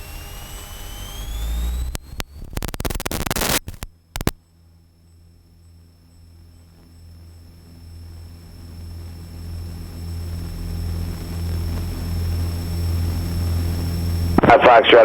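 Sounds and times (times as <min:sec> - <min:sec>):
aircraft piston engines droning: 0:00.0 - 0:02.8, 0:03.7 - 0:15.0.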